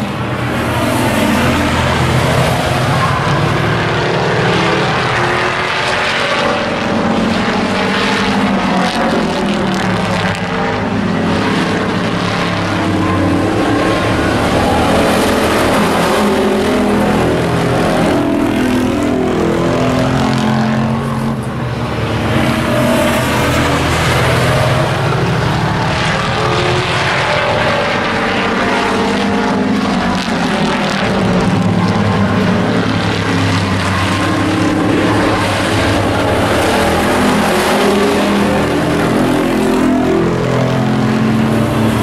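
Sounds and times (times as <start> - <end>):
racing truck engines: 0.0 - 42.0.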